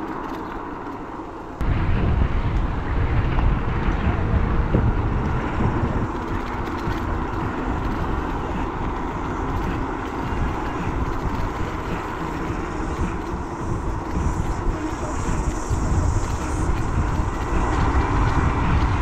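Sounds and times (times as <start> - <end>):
vehicle road and wind rumble: 0.0 - 19.0.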